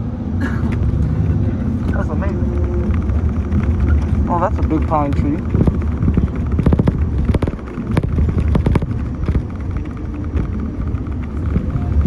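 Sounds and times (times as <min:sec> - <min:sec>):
bus engine and road rumble: 0:00.0 - 0:12.0
rattles and knocks: 0:00.4 - 0:12.0.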